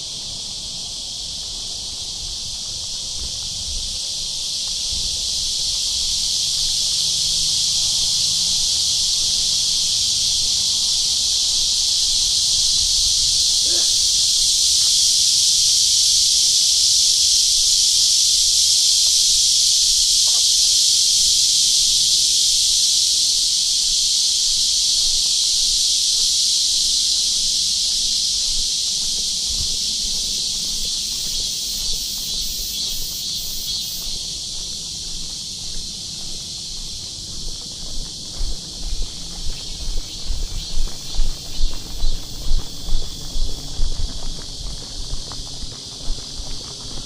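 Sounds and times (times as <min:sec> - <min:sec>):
cicadas buzzing: 0:00.0 - 0:47.0.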